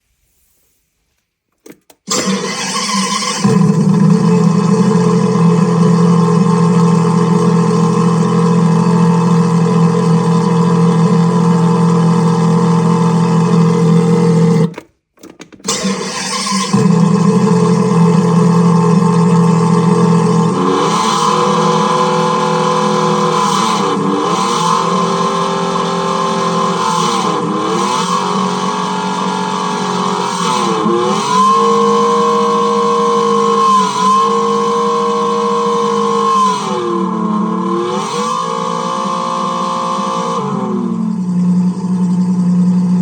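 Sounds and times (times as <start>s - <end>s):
car engine revving: 2.1s - 14.7s, 15.7s - 43.0s.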